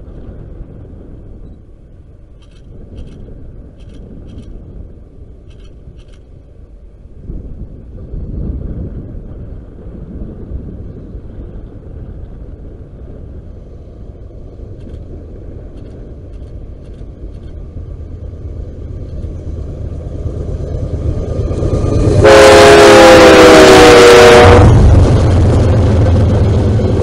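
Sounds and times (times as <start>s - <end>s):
diesel locomotive engines rumbling: 0.0s - 27.0s.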